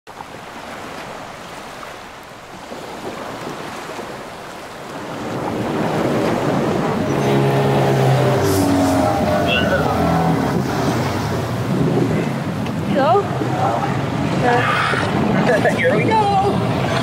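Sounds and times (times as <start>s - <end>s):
ocean surf: 0.1s - 17.0s
wind noise: 2.5s - 17.0s.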